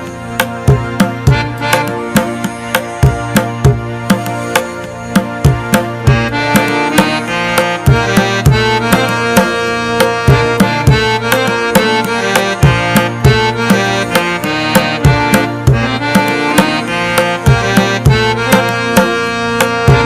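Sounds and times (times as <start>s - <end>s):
sustained melodic notes: 0.0s - 20.0s
hand drum beat: 0.4s - 20.0s.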